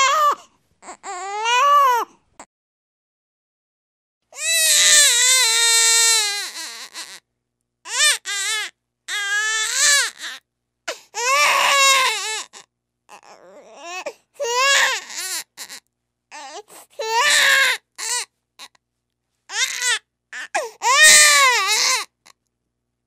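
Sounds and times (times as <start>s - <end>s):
baby crying: 0.0s - 2.2s, 4.4s - 7.2s, 7.9s - 18.8s, 19.5s - 22.2s.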